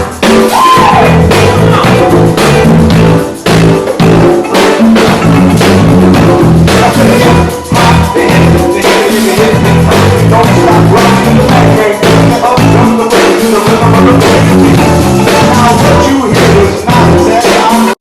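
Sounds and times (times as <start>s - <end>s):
bass line: 0.0s - 17.5s
drum kit beat: 0.0s - 18.0s
electric guitar: 0.0s - 18.0s.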